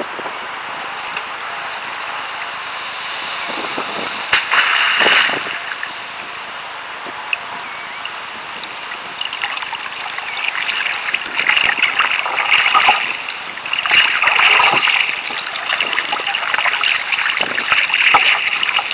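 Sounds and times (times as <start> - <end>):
water splashing and rushing: 1.9 - 18.9.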